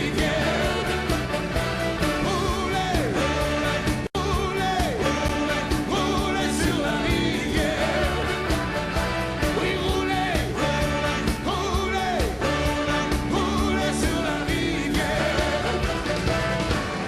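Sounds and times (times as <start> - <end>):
male lead vocal: 0.0 - 16.7
rock and roll song: 0.0 - 17.0.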